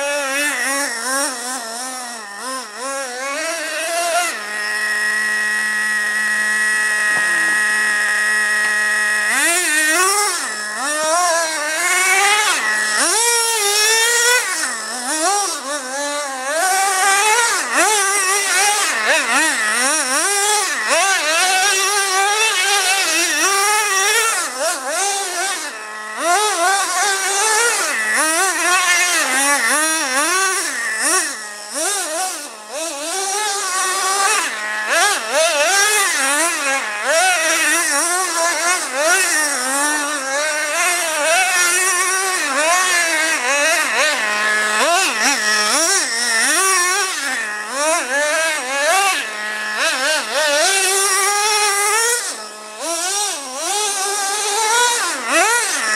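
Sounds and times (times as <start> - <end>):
model truck engine revving: 0.0 - 55.9.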